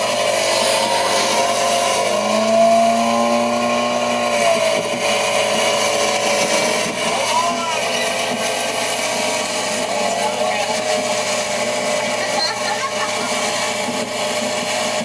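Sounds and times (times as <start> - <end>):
motorboat engine running: 0.0 - 15.0
rushing water noise: 0.0 - 15.0.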